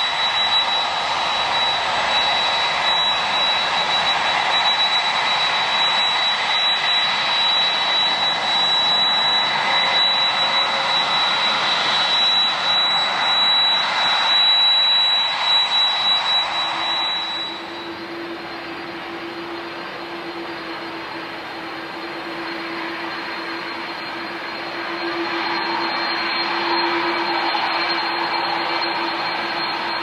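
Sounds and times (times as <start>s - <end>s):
high-pitched engine whine: 0.0s - 30.0s
jet engines running: 0.0s - 30.0s.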